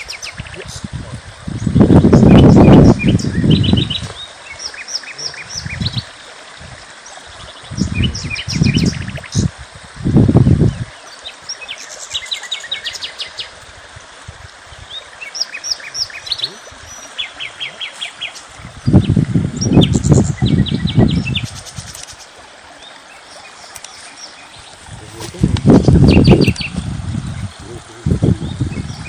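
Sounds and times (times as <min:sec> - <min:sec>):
small birds chirping: 0:00.0 - 0:06.2, 0:06.8 - 0:09.5, 0:10.4 - 0:13.6, 0:14.7 - 0:29.0.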